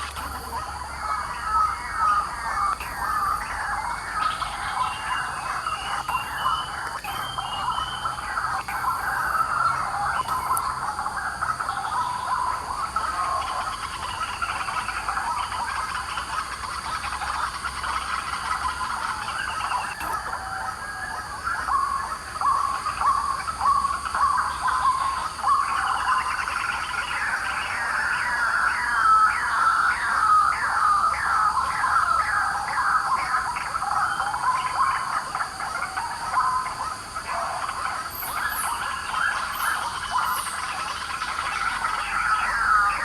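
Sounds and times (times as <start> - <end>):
waterhens calling: 0.0 - 43.0.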